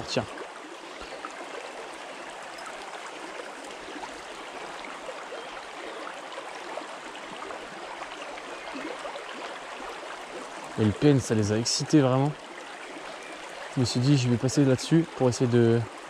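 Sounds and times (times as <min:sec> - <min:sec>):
stream babbling over stones: 0:00.0 - 0:16.0.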